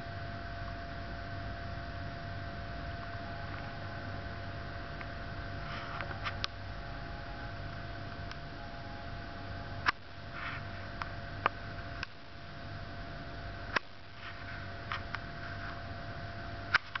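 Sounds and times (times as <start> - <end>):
low ambient hum: 0.0 - 17.0.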